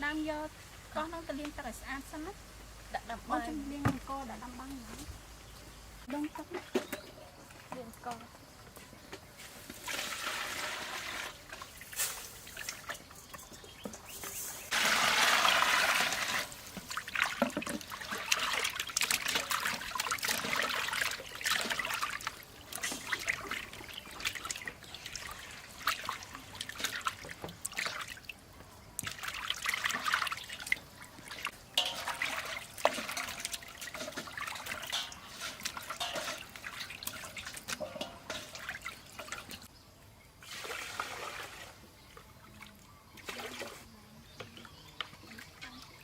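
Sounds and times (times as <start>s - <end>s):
water pouring and trickling: 9.1s - 46.0s.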